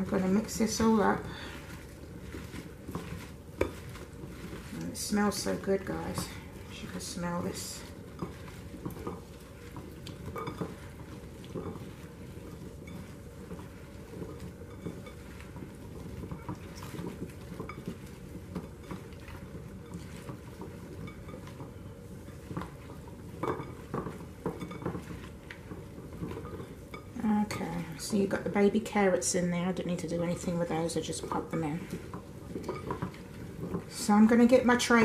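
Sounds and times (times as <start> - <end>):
vegetables tapping glass bowl: 1.6 - 28.1, 31.2 - 34.1.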